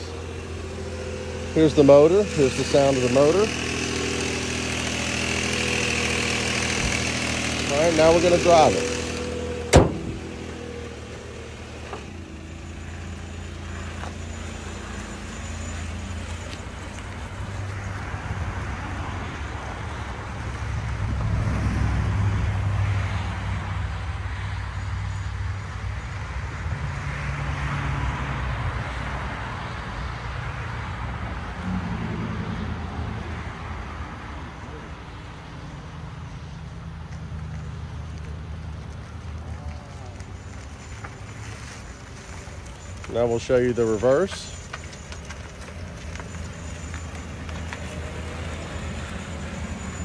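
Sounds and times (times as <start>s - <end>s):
car engine hum: 0.0s - 50.0s
tyre and road noise: 0.0s - 50.0s.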